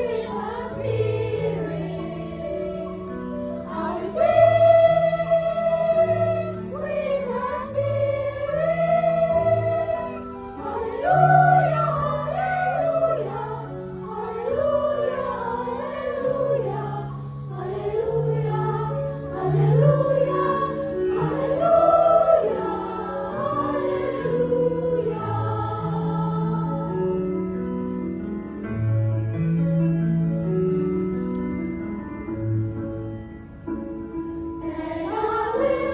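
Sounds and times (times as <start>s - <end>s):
church choir singing: 0.0s - 28.0s, 34.4s - 35.9s.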